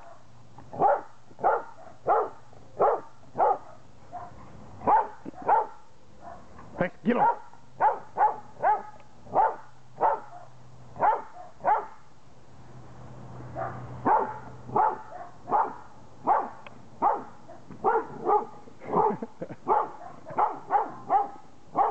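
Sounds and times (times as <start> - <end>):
dog barking: 0.0 - 6.5, 7.2 - 12.0, 13.6 - 21.9.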